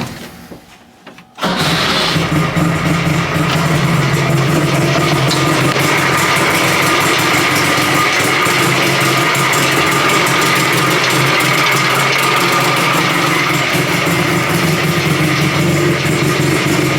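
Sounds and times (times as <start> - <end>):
two-stroke engine idling: 1.4 - 16.9.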